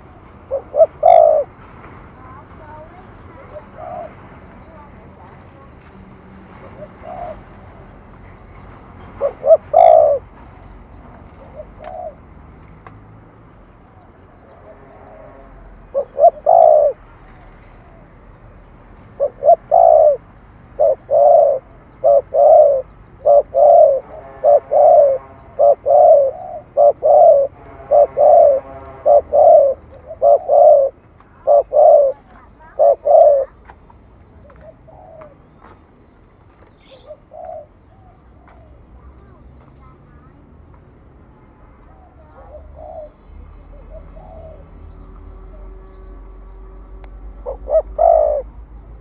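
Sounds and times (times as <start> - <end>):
dove cooing: 0.0 - 5.8, 6.5 - 8.0, 8.6 - 12.5, 13.8 - 18.2, 19.0 - 33.8, 34.4 - 35.5, 36.8 - 40.4, 41.8 - 46.1, 47.2 - 49.0.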